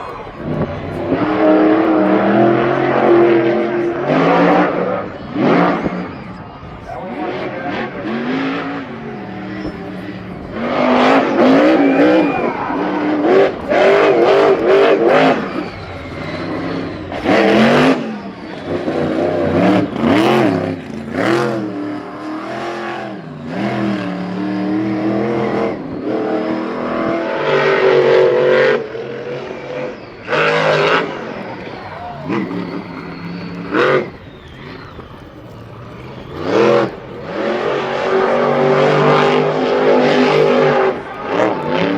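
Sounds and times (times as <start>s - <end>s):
racing engines revving: 0.0s - 41.9s.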